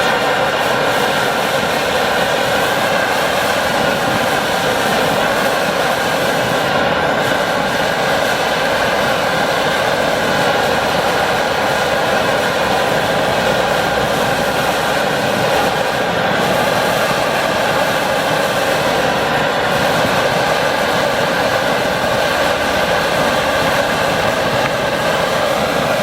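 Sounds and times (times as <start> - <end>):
stove burner roaring: 0.0 - 26.0.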